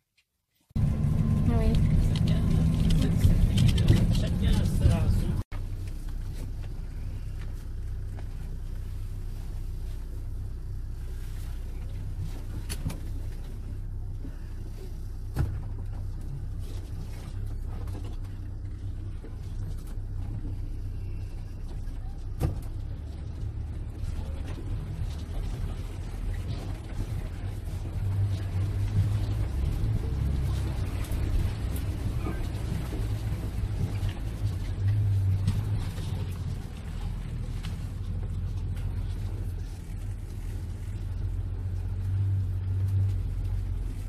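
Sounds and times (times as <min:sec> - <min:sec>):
vehicle engine rumbling: 0:00.6 - 0:44.0.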